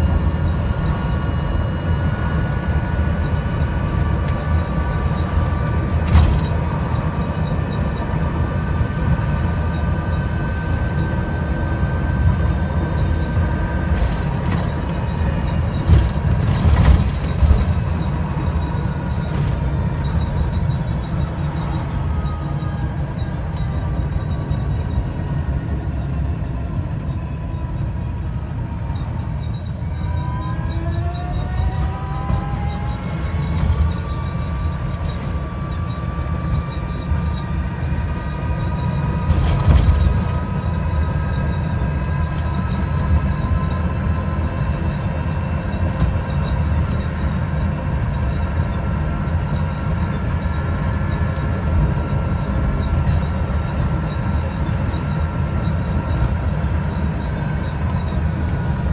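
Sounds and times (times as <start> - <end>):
electric trike rumble: 0.0 - 58.9.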